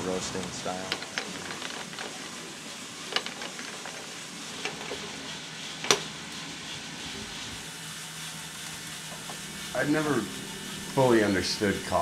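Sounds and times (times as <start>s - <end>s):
coffee beans tumbling in roaster drum: 0.0s - 12.0s.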